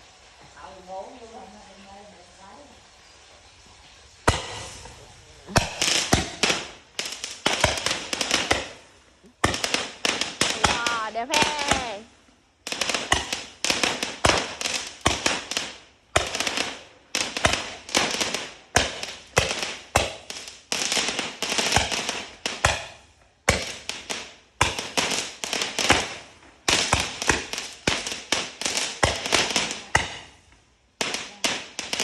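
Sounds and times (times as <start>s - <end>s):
fireworks crackle: 0.0s - 32.0s
fireworks bangs: 4.2s - 32.0s.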